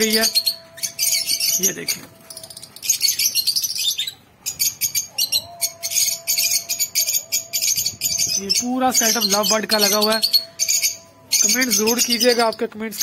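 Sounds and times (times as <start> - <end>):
lovebirds chirping shrilly: 0.0 - 13.0.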